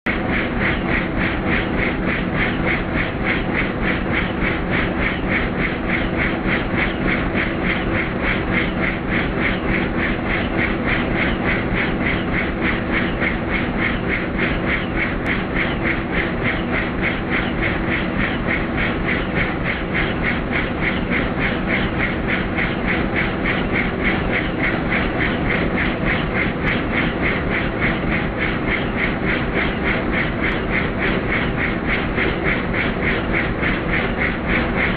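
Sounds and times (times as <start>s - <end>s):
helicopter engine drone: 0.1s - 34.9s
helicopter rotor blades chopping: 0.1s - 34.9s.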